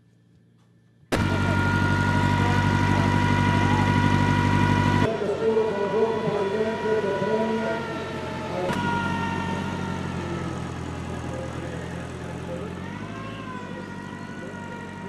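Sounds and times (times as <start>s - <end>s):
low engine drone: 0.0s - 15.0s
high-pitched motor whine: 1.1s - 15.0s.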